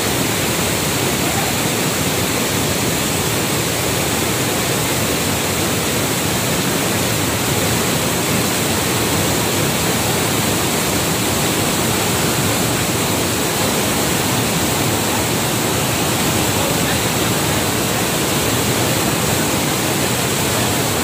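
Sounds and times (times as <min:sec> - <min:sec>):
waterfall and stream rushing: 0:00.0 - 0:21.0.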